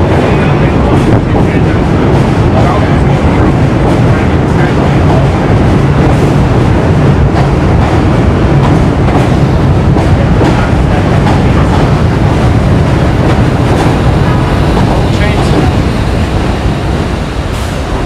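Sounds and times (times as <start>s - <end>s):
wheel clacks on rail: 0.0s - 16.4s
subway train wheels rumbling: 0.0s - 18.0s.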